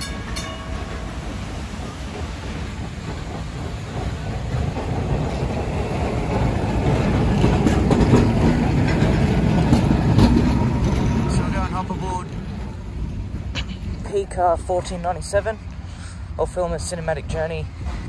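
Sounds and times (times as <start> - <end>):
tram wheels rumbling on rails: 0.0 - 18.0
wheels clicking over rail joints: 0.0 - 18.0.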